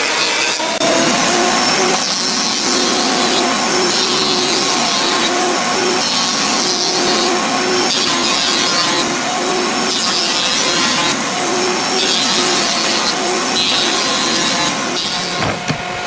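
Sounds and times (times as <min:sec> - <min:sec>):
cutterhead planing wood hiss: 0:00.0 - 0:16.0
thickness planer running: 0:00.0 - 0:16.0.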